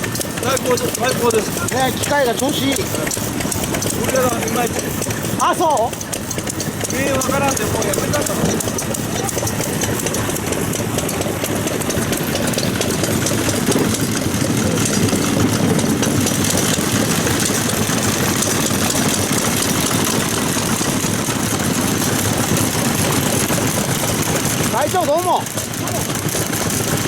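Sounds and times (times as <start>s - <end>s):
stationary engine knocking: 0.0s - 27.0s.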